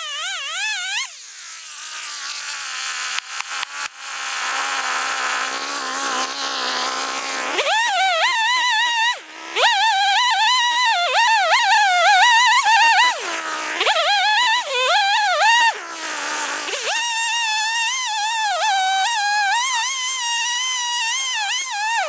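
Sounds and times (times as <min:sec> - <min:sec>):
chainsaw revving and idling: 0:00.0 - 0:22.0.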